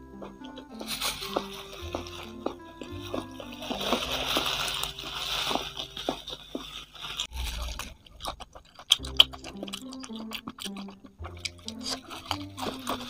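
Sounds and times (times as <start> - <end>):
chewing and crunching: 0.0 - 13.0.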